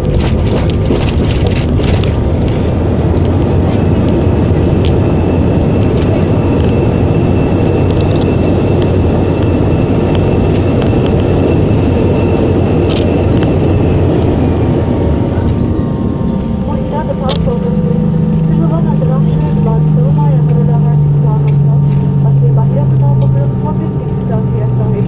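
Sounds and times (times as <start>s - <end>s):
airliner cabin roar: 0.0s - 25.0s.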